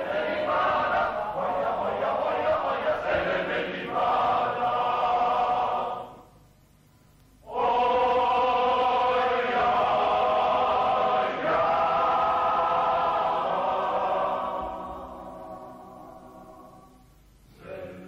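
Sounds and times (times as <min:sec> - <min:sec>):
men's choir singing chords: 0:00.0 - 0:06.3, 0:07.4 - 0:18.0.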